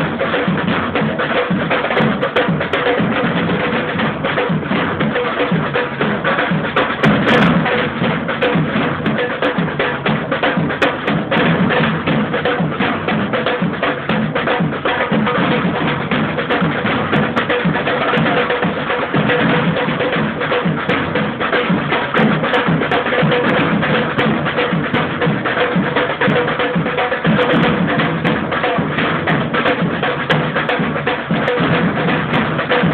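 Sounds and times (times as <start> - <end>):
deep bass drums: 0.0 - 30.6
samba drum band playing: 0.0 - 32.9.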